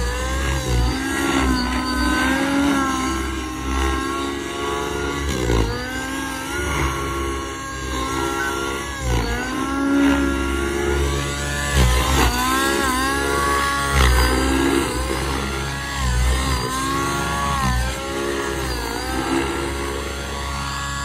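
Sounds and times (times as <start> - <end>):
model helicopter engine: 0.0 - 21.0.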